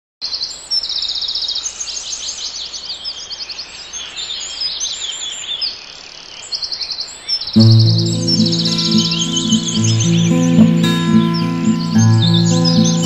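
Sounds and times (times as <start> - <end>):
birds singing: 0.2 - 13.0.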